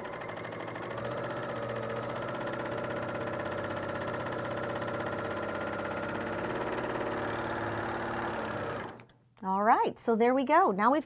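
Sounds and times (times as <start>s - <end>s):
serger sewing machine running: 0.0s - 9.1s.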